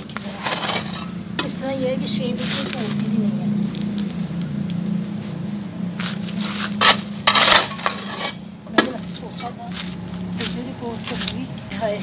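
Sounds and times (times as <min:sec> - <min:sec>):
metal tool scraping gritty ground: 0:00.0 - 0:04.4, 0:05.2 - 0:11.5
steady low hum: 0:00.0 - 0:12.0.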